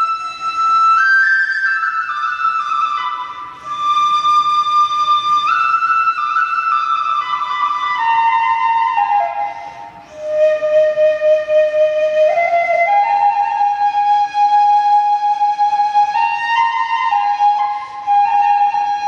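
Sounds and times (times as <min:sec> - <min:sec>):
bamboo flute melody: 0:00.0 - 0:19.0.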